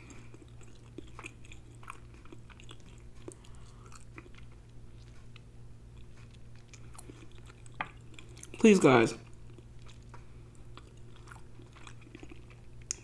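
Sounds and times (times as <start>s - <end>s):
person chewing: 0.0s - 8.6s, 9.2s - 13.0s
faint low hum: 0.0s - 13.0s.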